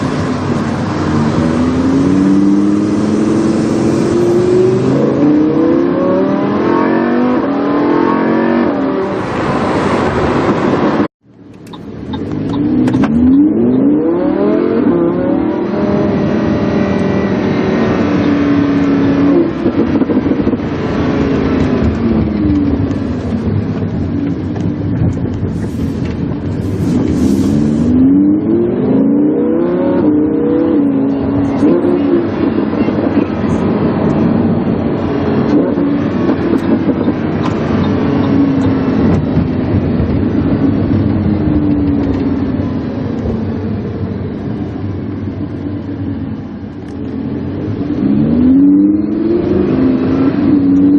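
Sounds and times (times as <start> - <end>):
sports car engine accelerating: 0.0 - 11.1, 11.8 - 50.9.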